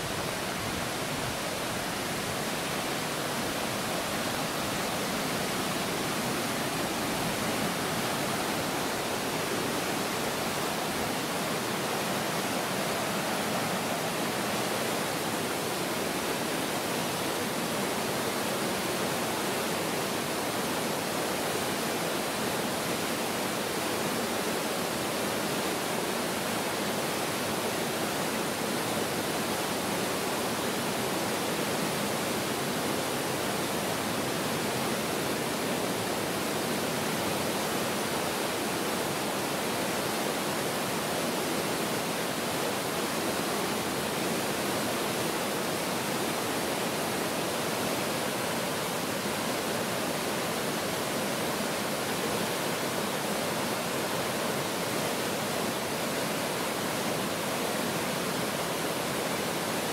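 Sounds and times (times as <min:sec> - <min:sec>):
stream rushing over rapids: 0:00.0 - 0:59.9.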